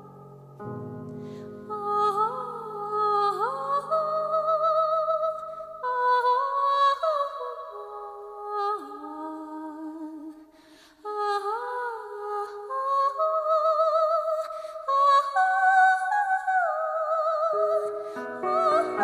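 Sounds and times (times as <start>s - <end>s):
a cappella vocal harmony: 1.3s - 19.0s.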